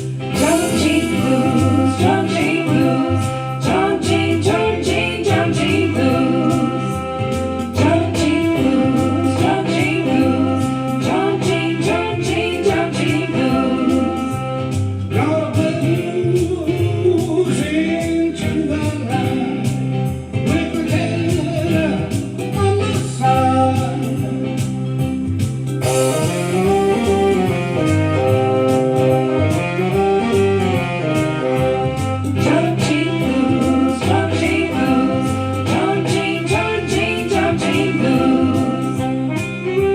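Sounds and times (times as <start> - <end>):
person singing: 0.0 - 24.9, 25.9 - 39.9
guitar: 0.0 - 39.9
repeating bass line: 0.0 - 39.9.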